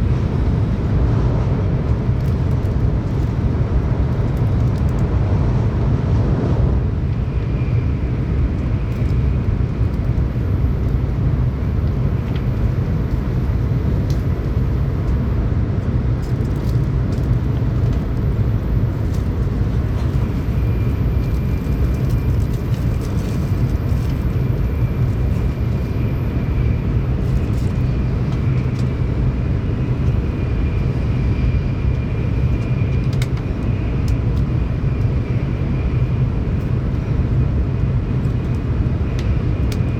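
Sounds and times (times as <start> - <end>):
train deep rumble: 0.0 - 39.9.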